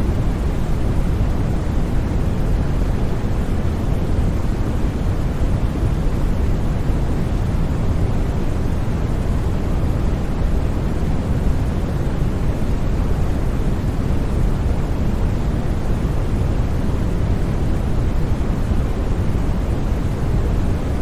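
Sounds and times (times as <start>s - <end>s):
deep white noise: 0.0s - 21.0s.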